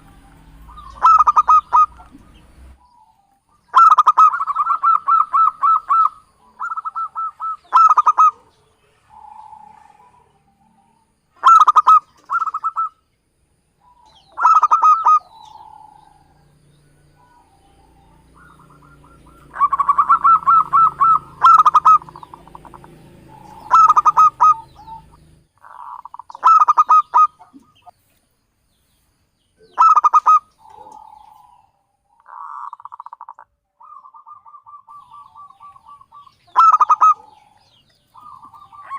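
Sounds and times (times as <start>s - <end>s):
dove cooing: 0.0s - 13.0s, 13.8s - 27.9s, 29.6s - 38.9s.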